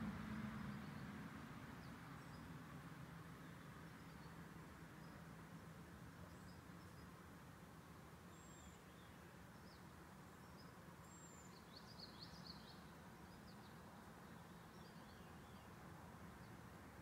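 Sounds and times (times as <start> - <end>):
distant small birds chirping: 0.0 - 17.0.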